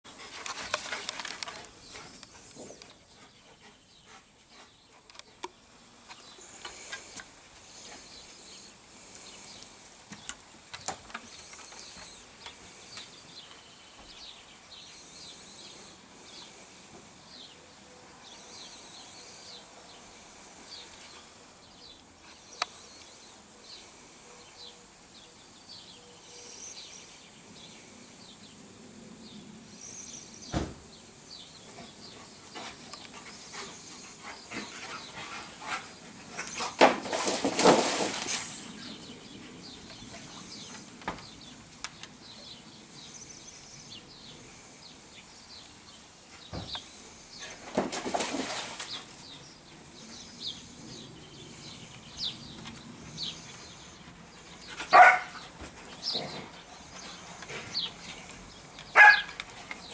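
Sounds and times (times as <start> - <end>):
small birds chirping: 0.1 - 28.6, 29.2 - 59.9.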